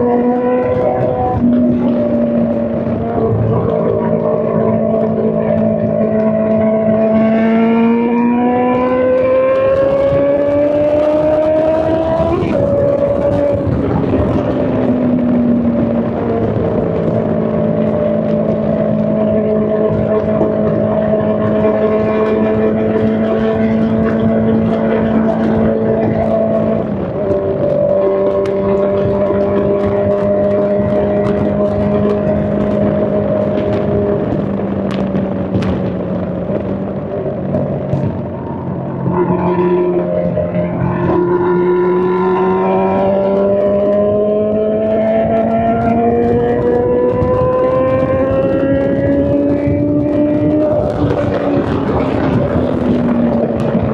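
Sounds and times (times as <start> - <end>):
motorcycle engine at steady revs: 0.0 - 53.9.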